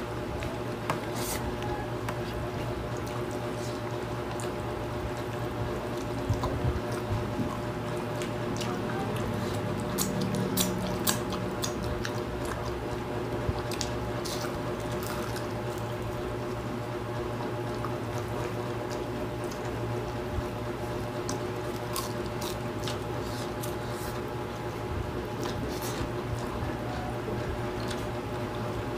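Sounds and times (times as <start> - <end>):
steady low hum: 0.0 - 28.9
chewing with wet squelching: 0.3 - 16.6, 17.5 - 20.6, 21.2 - 28.8.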